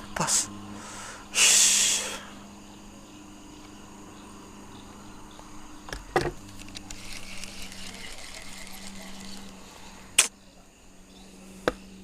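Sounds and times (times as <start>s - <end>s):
insects chirring: 0.0s - 12.0s
steady low hum: 0.0s - 12.0s.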